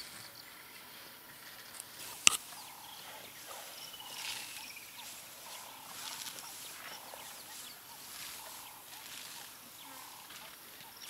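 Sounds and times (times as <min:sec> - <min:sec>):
birds calling: 0:01.7 - 0:11.0.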